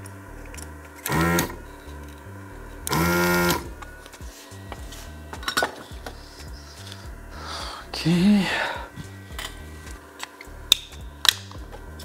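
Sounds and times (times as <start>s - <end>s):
soft background music: 0.0s - 12.0s
vacuum pump buzzing: 0.0s - 12.0s.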